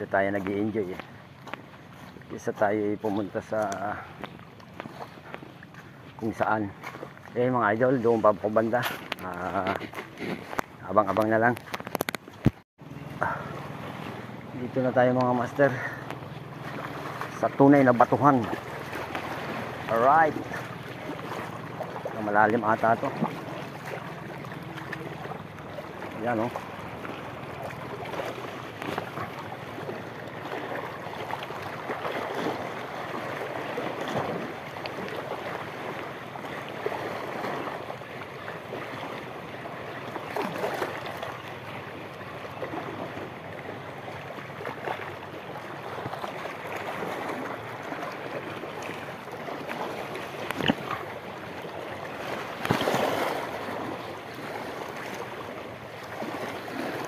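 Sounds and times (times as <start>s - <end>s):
waves lapping over rocks: 0.0s - 57.0s.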